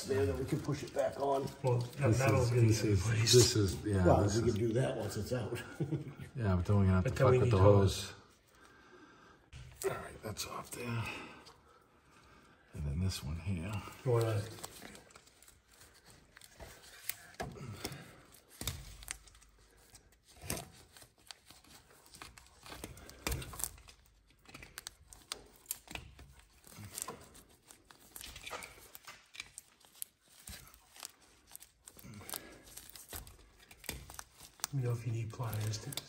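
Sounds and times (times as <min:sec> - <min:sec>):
glove crinkling and scraping: 0:00.0 - 0:08.7, 0:09.7 - 0:36.0.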